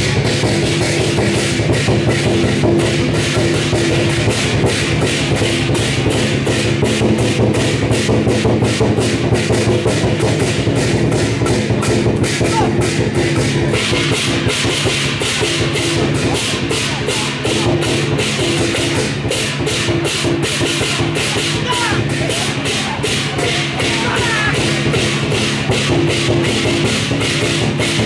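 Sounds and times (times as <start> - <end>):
drum beating: 0.0 - 28.0
gongs and cymbals: 0.0 - 28.0.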